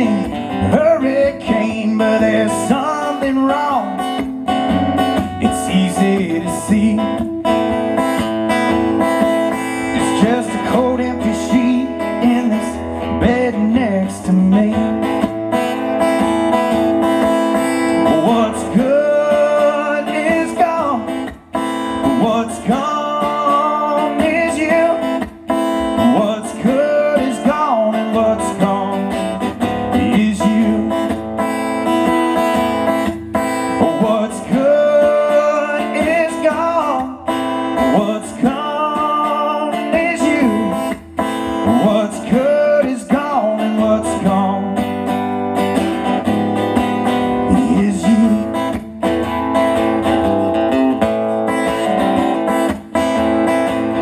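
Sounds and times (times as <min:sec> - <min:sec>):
acoustic guitar strummed: 0:00.0 - 0:54.0
lead melody with sliding notes: 0:00.0 - 0:54.0.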